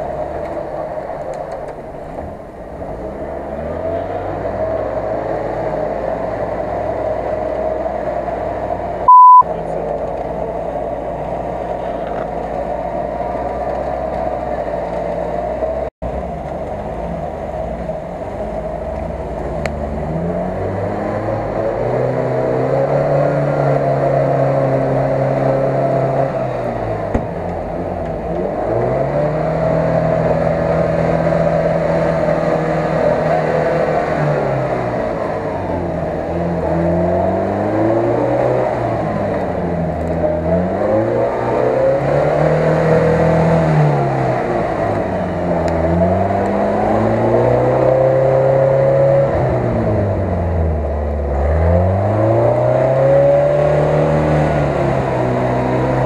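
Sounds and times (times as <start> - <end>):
engine revving in mud: 2.9 - 9.4, 10.0 - 56.0.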